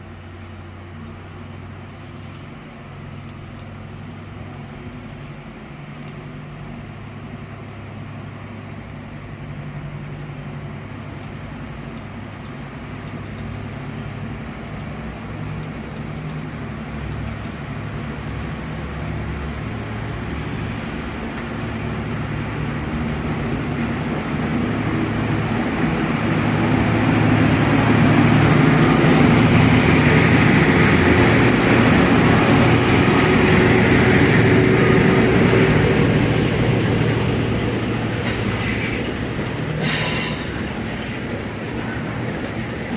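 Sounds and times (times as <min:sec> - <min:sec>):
locomotive engines humming: 0:00.0 - 0:42.9
train rolling noise: 0:00.0 - 0:42.9.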